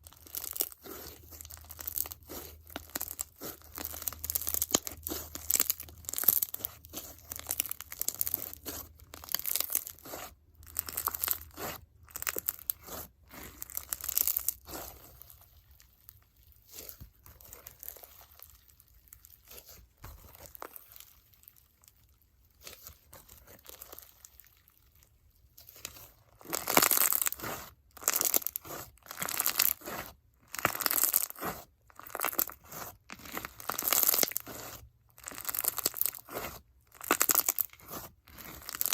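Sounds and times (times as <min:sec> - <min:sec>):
slime crackling and popping: 0:00.0 - 0:38.9.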